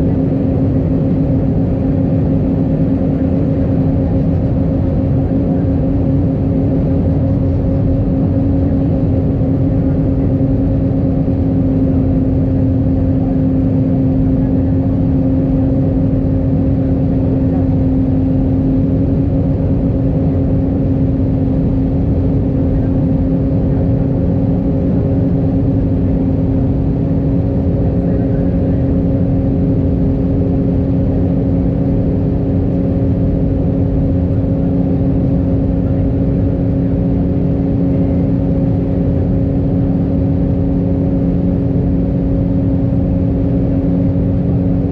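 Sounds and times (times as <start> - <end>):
constant low hum: 0.0 - 44.9
jet engines droning: 0.0 - 44.9.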